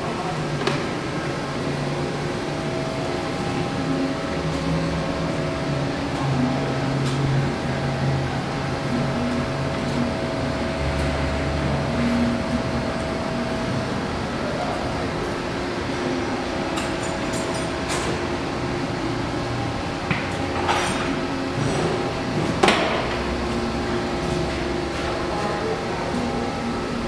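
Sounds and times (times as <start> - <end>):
machinery humming: 0.0 - 27.0.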